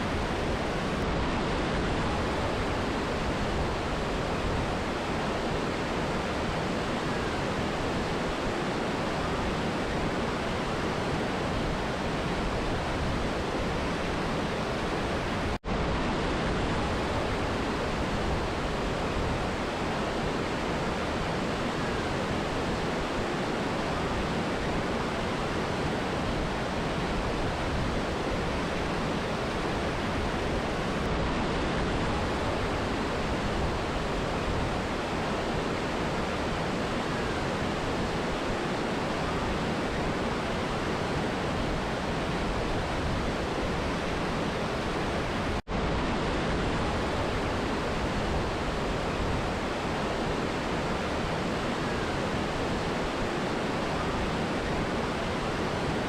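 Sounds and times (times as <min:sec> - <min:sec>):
rushing river and waterfall: 0:00.0 - 0:56.0.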